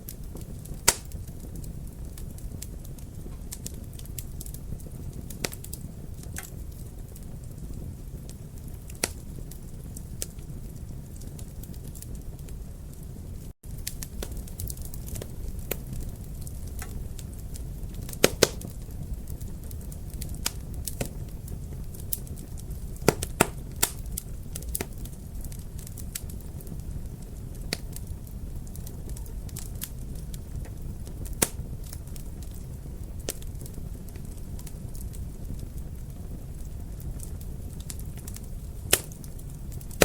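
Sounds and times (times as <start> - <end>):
sharp pops from fire: 0.0 - 40.0
wood fire crackling: 0.0 - 40.0.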